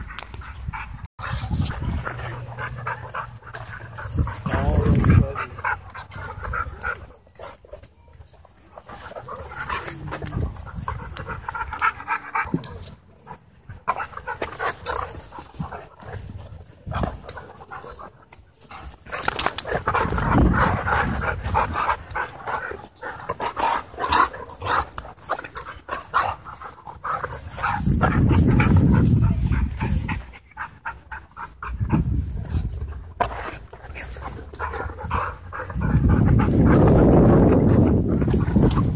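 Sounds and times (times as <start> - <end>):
dogs panting hard: 0.0 - 7.8, 8.4 - 38.9.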